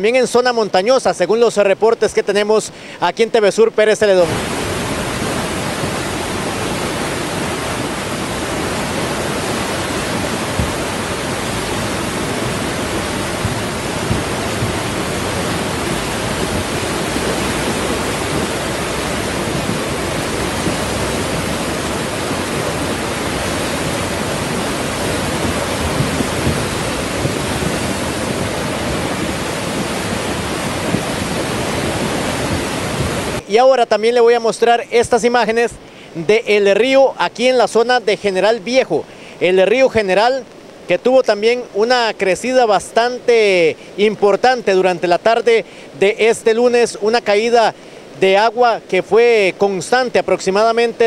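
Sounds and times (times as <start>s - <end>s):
flooded river rushing: 0.0s - 51.0s.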